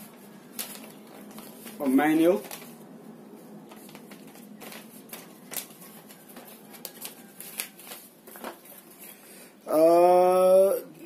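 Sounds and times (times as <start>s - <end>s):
paper rustling and crackling: 0.0s - 9.2s.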